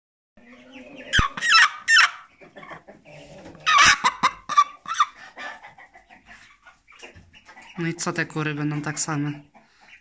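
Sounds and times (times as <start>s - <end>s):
hens clucking: 0.4s - 10.0s.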